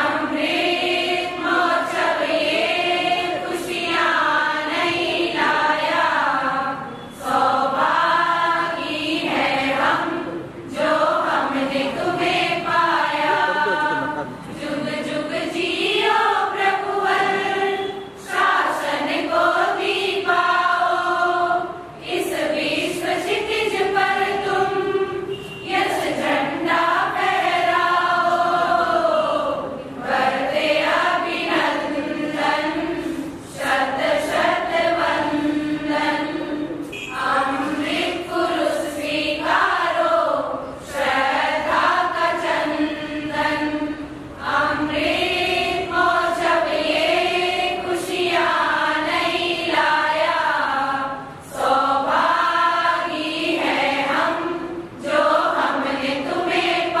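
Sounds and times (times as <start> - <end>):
women singing devotional song: 0.0 - 57.0.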